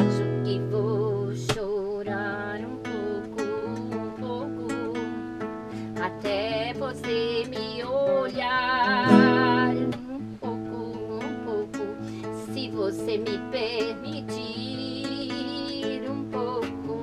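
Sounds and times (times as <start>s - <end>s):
classical guitar: 0.0s - 17.0s
woman singing: 0.0s - 17.0s.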